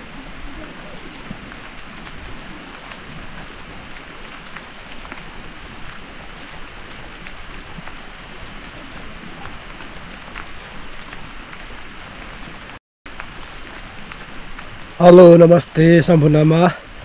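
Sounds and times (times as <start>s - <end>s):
heavy rain falling: 0.0s - 17.0s
raindrops ticking close by: 0.0s - 17.0s.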